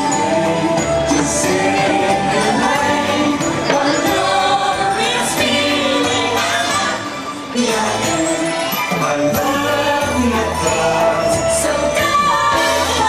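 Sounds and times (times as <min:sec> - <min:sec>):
parade music: 0:00.0 - 0:13.0
voices singing: 0:00.0 - 0:13.0.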